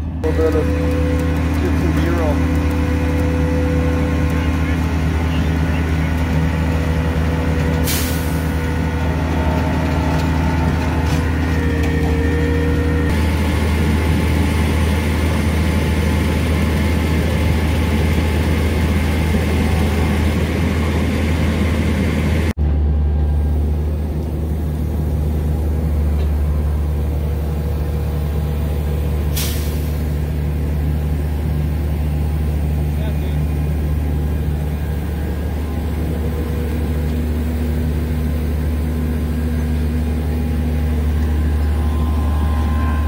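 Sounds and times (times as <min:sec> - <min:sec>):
truck engine drone: 0:00.0 - 0:43.0.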